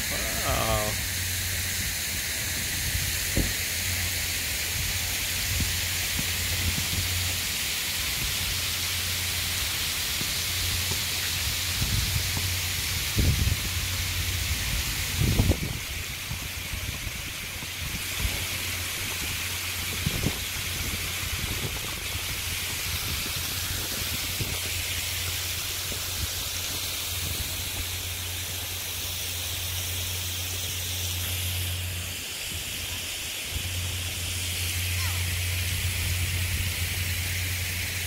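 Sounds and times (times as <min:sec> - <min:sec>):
low steady hum: 0:00.0 - 0:38.0
outdoor background hiss: 0:00.0 - 0:38.0.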